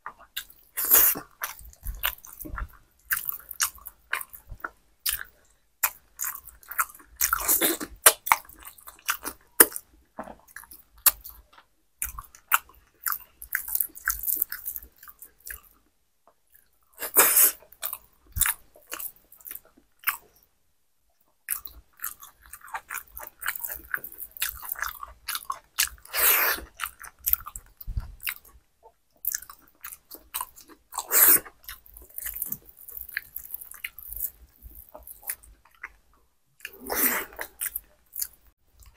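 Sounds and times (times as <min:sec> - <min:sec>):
person chewing with wet mouth sounds: 0:00.0 - 0:20.5, 0:21.4 - 0:38.9.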